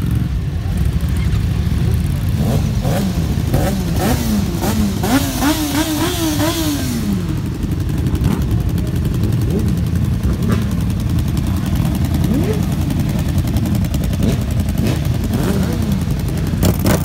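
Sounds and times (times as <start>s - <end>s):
motorcycle engine revving: 0.0s - 17.0s
motorcycle engines rumbling: 0.0s - 17.0s.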